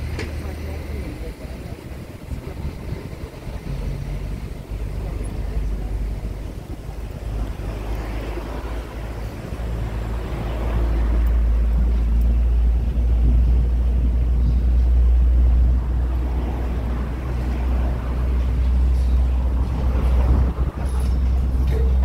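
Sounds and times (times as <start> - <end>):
train engine rumbling: 0.0 - 22.0.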